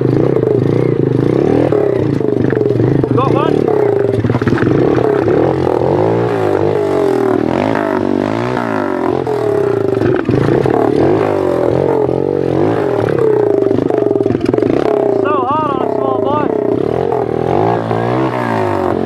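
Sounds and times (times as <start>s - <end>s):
motorbike engine revving: 0.0s - 19.0s
tyres on gravel: 1.0s - 19.0s.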